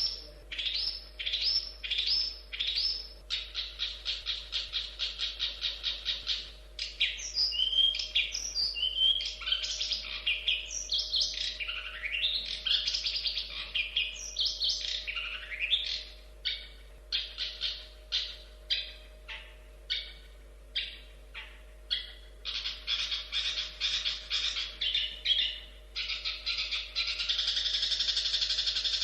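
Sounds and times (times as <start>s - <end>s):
bird singing whistles and trills: 0.0s - 29.0s.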